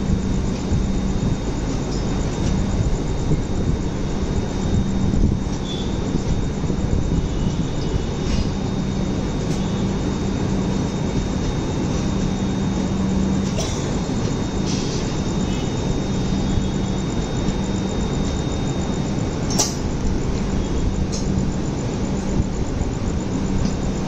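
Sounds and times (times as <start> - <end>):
train rumble and wheel noise: 0.0 - 24.0.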